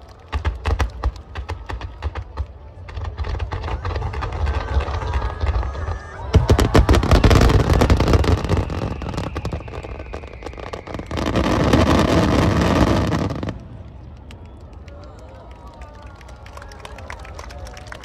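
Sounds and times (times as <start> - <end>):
crowd voices: 0.0 - 18.0
fireworks bursting and crackling: 0.2 - 14.8.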